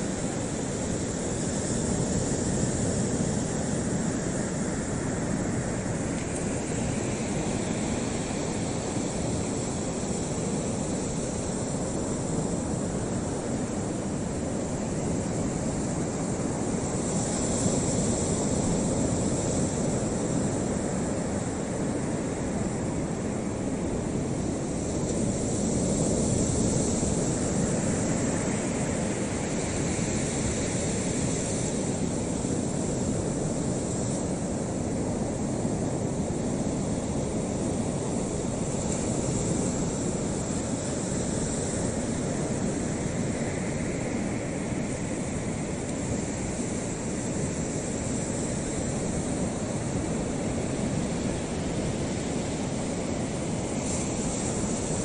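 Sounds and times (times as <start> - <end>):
wind and water hiss: 0.0 - 55.0.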